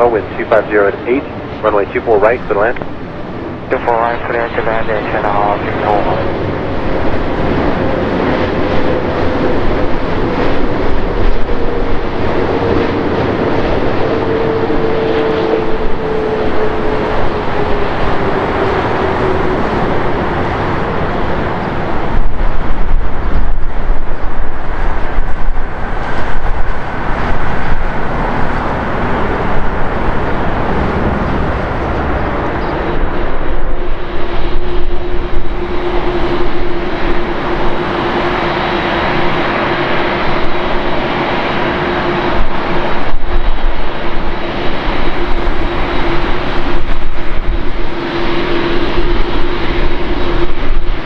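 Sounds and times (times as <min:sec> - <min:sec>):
jet engine whine: 0:00.0 - 0:51.0
jet landing rumble: 0:00.0 - 0:51.0.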